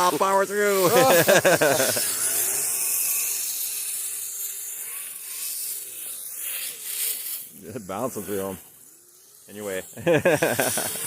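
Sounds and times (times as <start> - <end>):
tracks churning snow: 0.0 - 8.8, 9.5 - 11.0
electric motor whining: 0.0 - 11.0.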